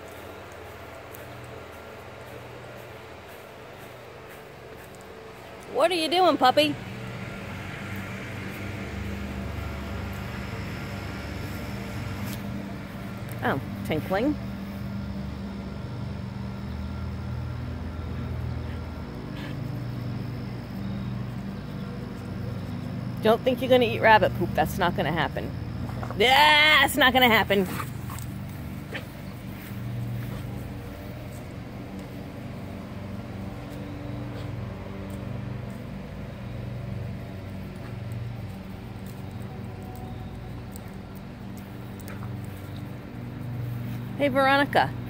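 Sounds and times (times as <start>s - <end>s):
machine humming: 0.0s - 45.0s.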